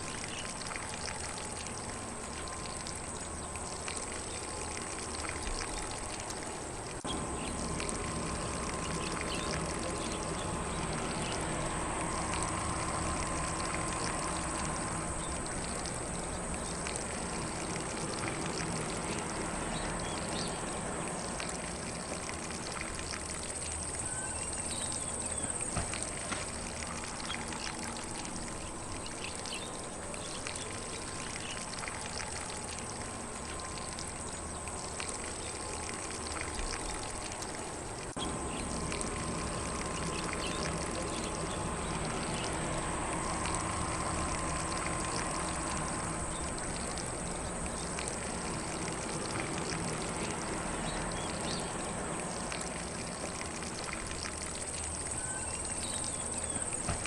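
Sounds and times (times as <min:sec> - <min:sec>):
faint birdsong: 0:00.0 - 0:54.0, 0:54.6 - 0:57.0
sprinkler spraying water: 0:00.0 - 0:57.0.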